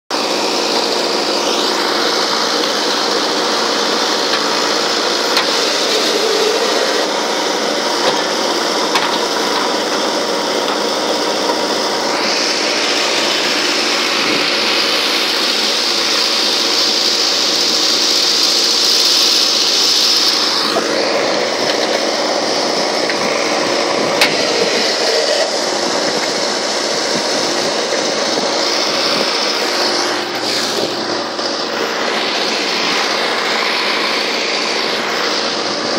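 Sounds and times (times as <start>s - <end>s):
diesel engine and hydraulics running: 0.1s - 35.9s
high whine: 0.1s - 35.9s.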